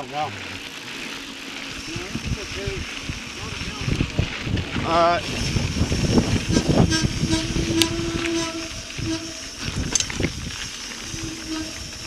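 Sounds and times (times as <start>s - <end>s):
bike rattling with sharp clicks: 0.0s - 12.0s
bike tyres rumbling on dirt: 0.0s - 12.0s
brakes squealing: 0.0s - 12.0s.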